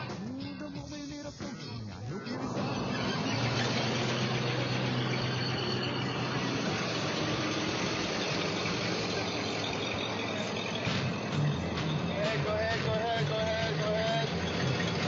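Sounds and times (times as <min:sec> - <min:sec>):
truck engine: 0:00.0 - 0:15.0.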